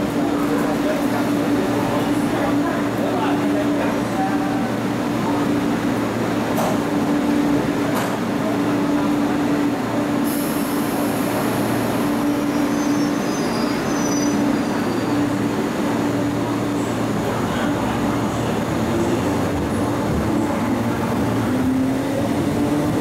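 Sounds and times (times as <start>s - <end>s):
electric train hum and rumble: 0.0s - 23.0s.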